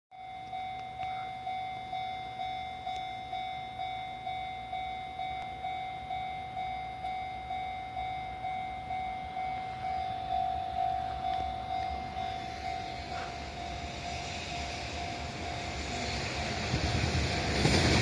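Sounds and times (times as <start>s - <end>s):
level crossing warning bell: 0.1s - 18.0s.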